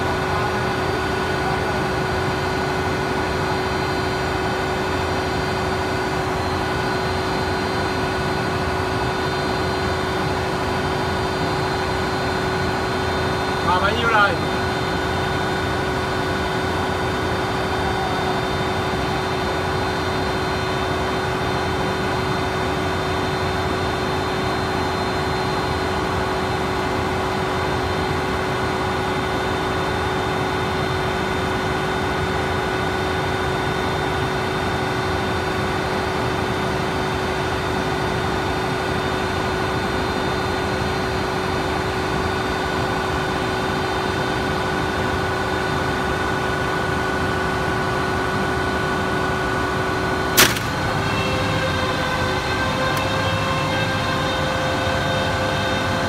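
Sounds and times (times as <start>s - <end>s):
machine drone with steady tones: 0.0s - 56.0s.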